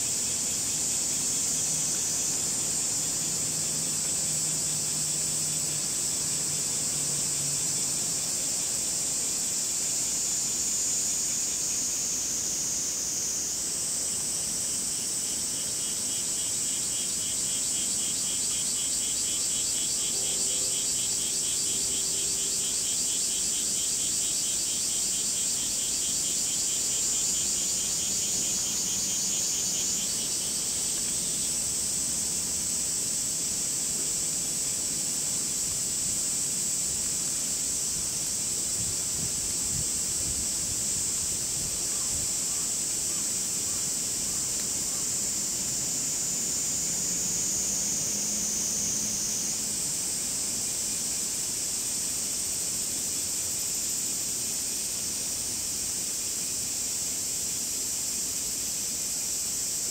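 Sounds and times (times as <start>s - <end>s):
cicadas droning: 0.0s - 59.9s
faint hiss: 0.0s - 59.9s
rapidly pulsing insect call: 0.0s - 59.9s.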